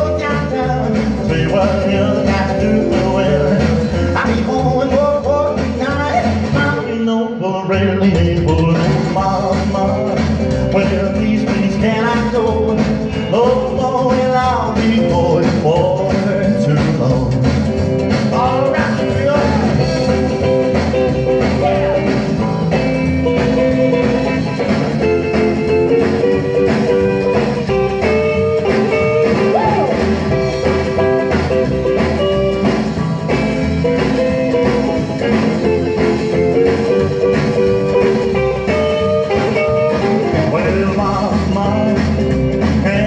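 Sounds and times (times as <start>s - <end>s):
rock and roll guitar record: 0.0s - 43.0s.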